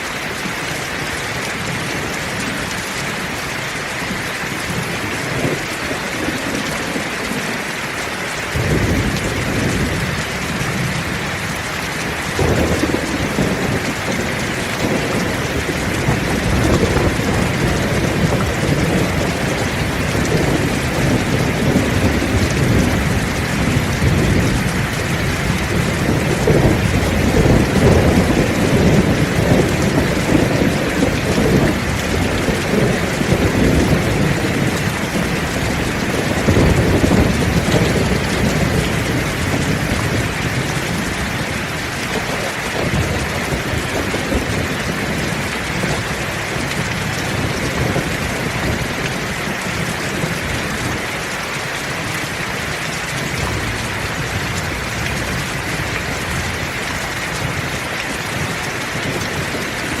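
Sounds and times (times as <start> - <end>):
heavy rain: 0.0 - 60.0
thunder rumbling: 8.5 - 51.0, 52.0 - 60.0.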